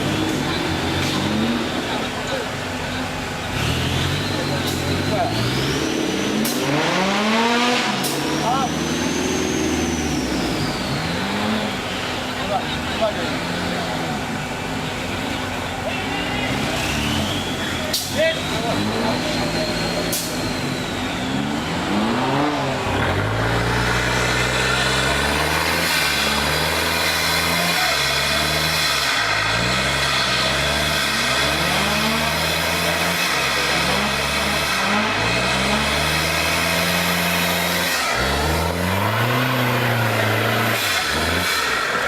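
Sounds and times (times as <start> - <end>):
vehicle engine revving: 0.0 - 42.0.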